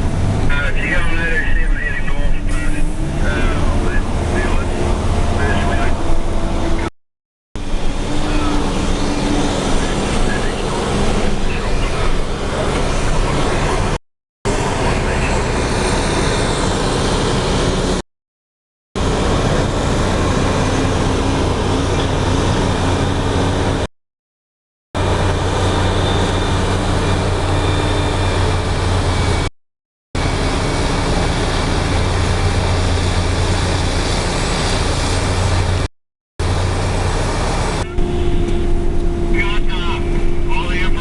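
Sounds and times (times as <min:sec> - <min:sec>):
heavy diesel machinery droning: 0:00.0 - 0:06.9, 0:07.6 - 0:18.0, 0:19.0 - 0:23.9, 0:25.0 - 0:29.5, 0:30.2 - 0:41.0.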